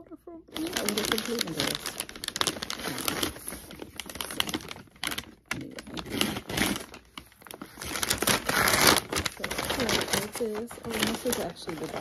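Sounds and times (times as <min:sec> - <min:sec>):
paper packaging crinkling: 0:00.5 - 0:12.0.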